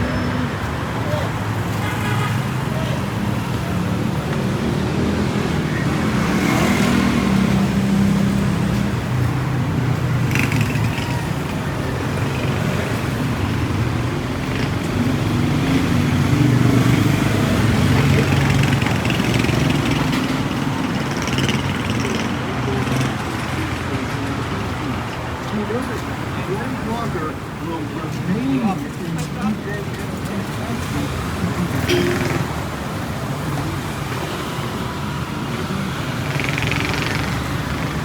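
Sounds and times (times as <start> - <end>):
vehicles passing close by: 0.0 - 38.0.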